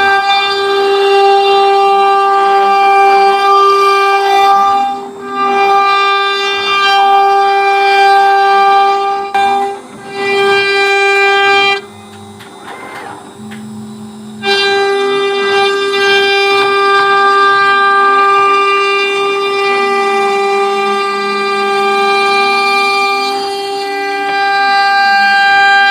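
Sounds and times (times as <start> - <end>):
router spindle whine: 0.0 - 25.9.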